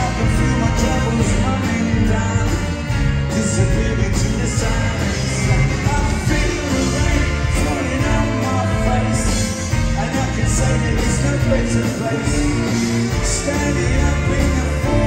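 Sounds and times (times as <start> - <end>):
drums: 0.0 - 15.0
electric bass: 0.0 - 15.0
man singing into a microphone: 0.0 - 15.0.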